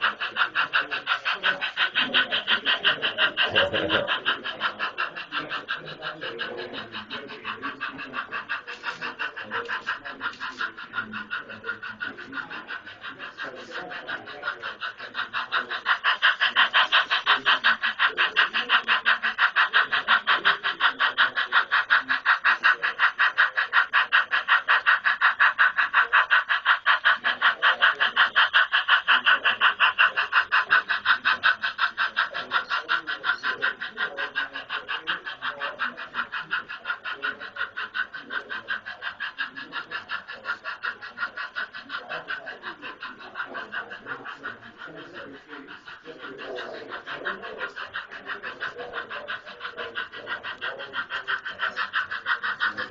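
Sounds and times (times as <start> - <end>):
model train clicking on track: 0.0 - 52.9.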